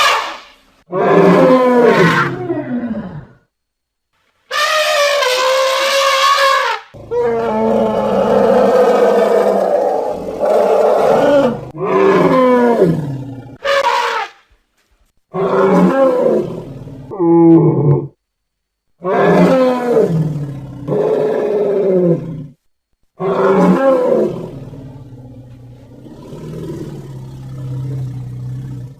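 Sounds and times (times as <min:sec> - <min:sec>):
mammoth roaring calls: 0:00.0 - 0:03.4, 0:04.5 - 0:14.4, 0:15.3 - 0:18.2, 0:19.0 - 0:22.6, 0:23.2 - 0:28.9.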